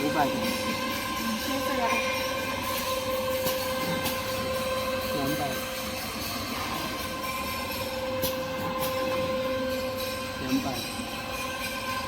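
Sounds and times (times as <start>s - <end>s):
machine humming tones: 0.0s - 12.0s.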